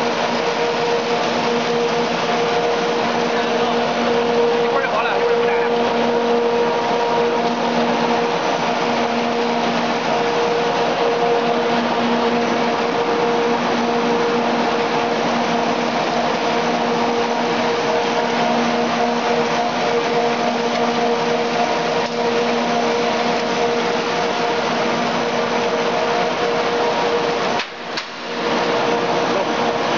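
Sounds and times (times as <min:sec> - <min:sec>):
constant hum: 0:00.0 - 0:29.9
processing machinery running: 0:00.0 - 0:29.9.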